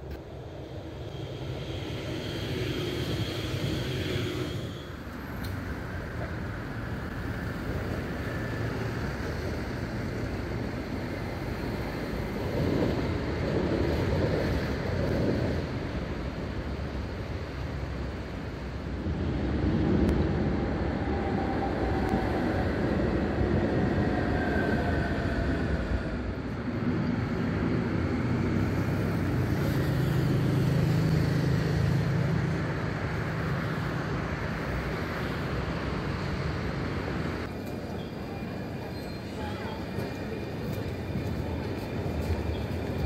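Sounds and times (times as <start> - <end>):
tram passing with low hum: 0.0 - 43.0
tram wheels rumbling on rails: 0.0 - 43.0.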